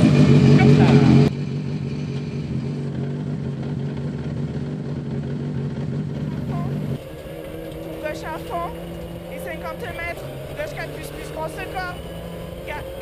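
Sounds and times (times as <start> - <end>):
low engine hum: 0.0 - 13.0
rally car engine idling: 0.0 - 13.0.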